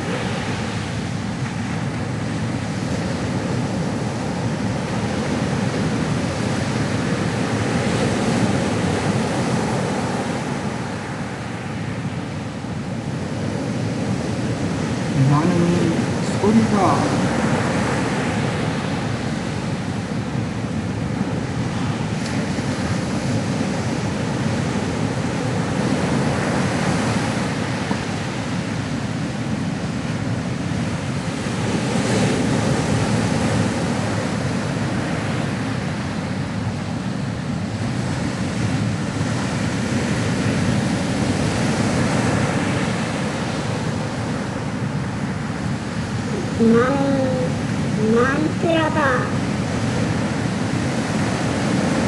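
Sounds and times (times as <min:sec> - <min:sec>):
waves breaking on a shore: 0:00.0 - 0:52.0.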